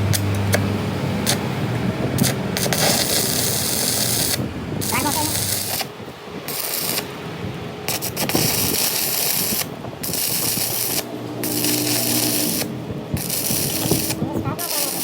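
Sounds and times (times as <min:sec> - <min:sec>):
metalworking machine scraping: 0:00.0 - 0:05.9, 0:07.8 - 0:15.0
steady hum: 0:00.0 - 0:15.0.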